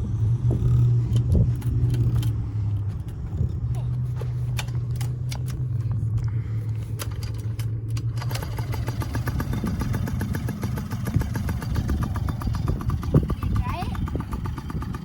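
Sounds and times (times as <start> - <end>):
dirt bike engine running: 0.0 - 15.0
mechanical clatter: 0.4 - 15.0.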